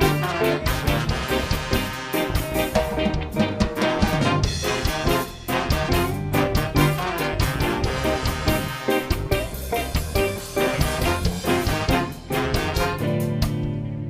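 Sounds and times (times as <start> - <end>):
fast drum beat: 0.0 - 13.6
horns: 0.0 - 13.7
live band playing ska: 0.0 - 14.0.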